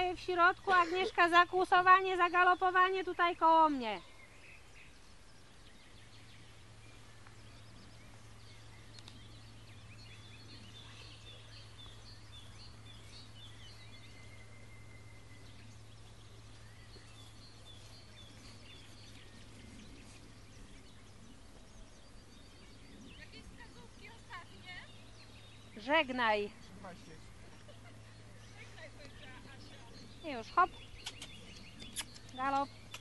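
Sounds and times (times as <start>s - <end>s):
small birds chirping: 0.0s - 33.0s
steady low hum: 0.0s - 33.0s.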